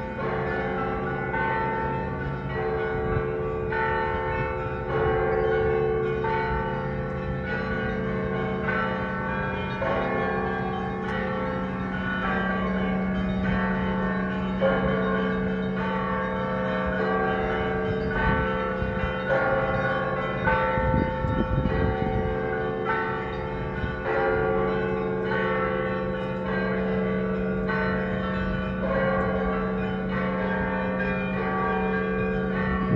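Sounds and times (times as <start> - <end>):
church bells pealing: 0.0 - 32.9.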